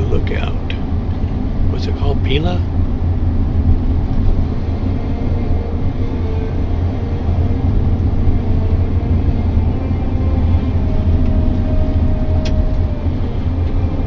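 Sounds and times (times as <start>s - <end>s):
engine and road noise inside vehicle: 0.0s - 14.0s.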